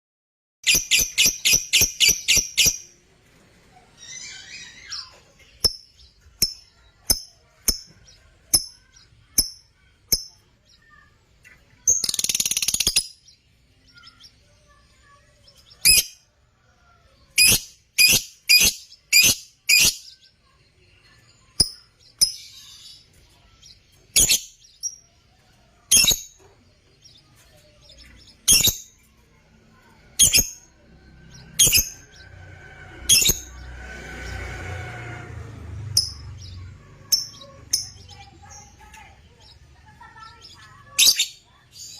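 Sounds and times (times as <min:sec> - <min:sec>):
lovebirds chirping: 0:00.6 - 0:32.4, 0:36.0 - 0:41.9.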